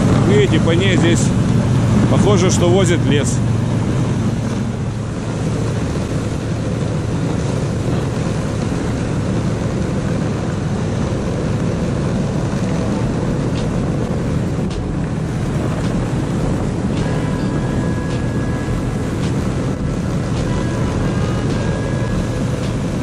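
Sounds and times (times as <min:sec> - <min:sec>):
sled rumbling over snow: 0:00.0 - 0:23.0.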